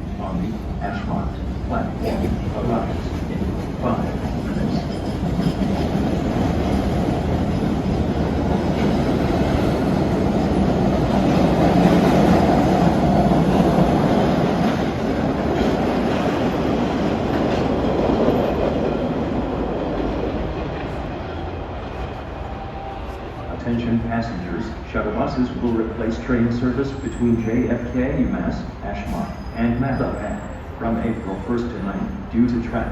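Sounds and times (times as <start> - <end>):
subway train wheels rumbling: 0.0 - 32.9.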